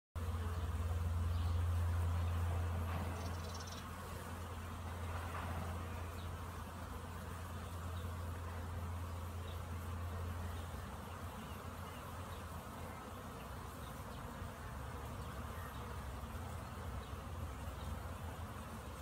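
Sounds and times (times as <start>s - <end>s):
bees buzzing: 0.2s - 19.0s.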